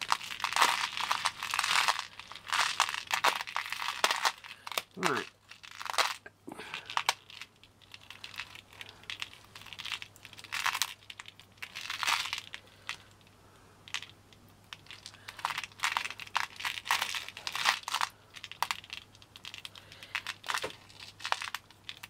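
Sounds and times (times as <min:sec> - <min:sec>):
pearl beads clicking and rattling: 0:00.0 - 0:13.3, 0:13.9 - 0:22.0.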